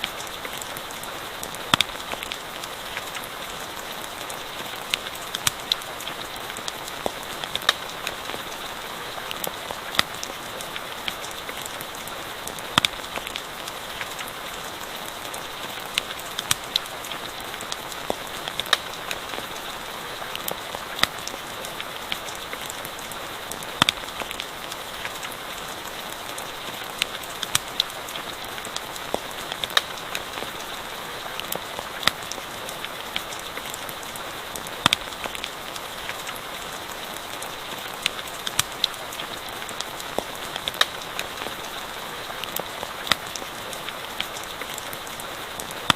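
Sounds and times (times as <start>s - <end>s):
campfire popping and crackling: 0.0s - 45.9s.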